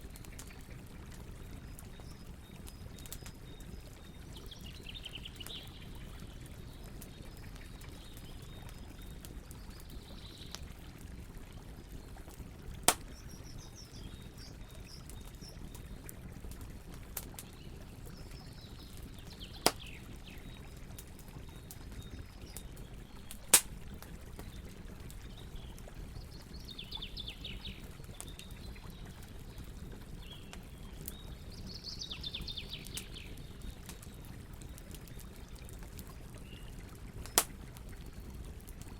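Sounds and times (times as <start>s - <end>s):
campfire rumble: 0.0s - 38.9s
wood popping in fire: 0.0s - 38.9s.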